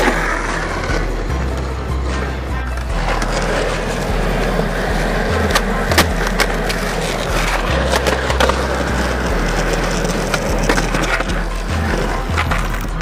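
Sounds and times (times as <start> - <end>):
background music with bass: 0.0 - 13.0
skateboard clacks: 0.0 - 13.0
skateboard wheels rolling: 0.0 - 13.0.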